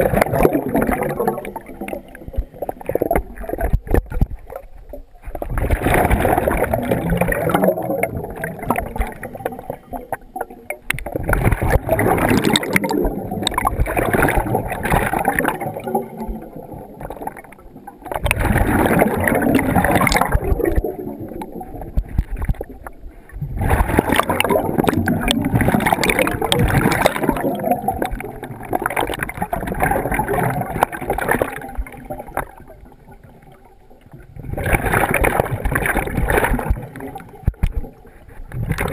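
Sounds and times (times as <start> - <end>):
underwater exhaust bubbles rushing: 0.0 - 38.9.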